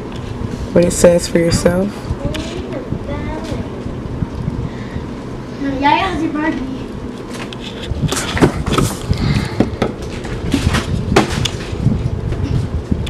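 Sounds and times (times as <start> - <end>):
low handling rumble: 0.0 - 13.0.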